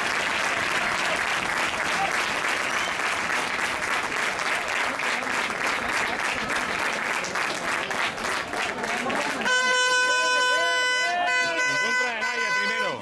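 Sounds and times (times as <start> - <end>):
crowd clapping: 0.0 - 13.0.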